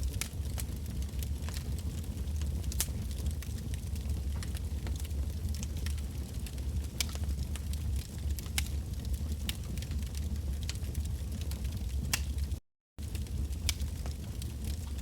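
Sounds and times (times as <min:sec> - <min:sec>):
bonfire low rumble: 0:00.0 - 0:15.0
firewood crackling and popping: 0:00.0 - 0:15.0.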